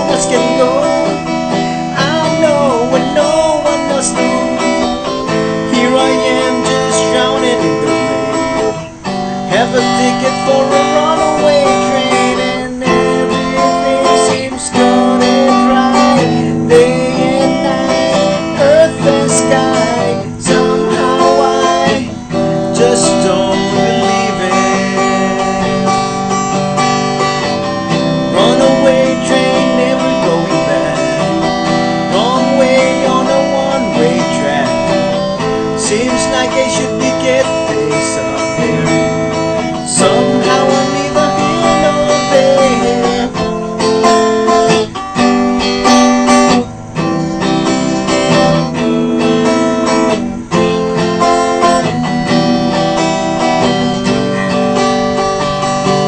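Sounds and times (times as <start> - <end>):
guitar strumming chords: 0.0 - 56.0.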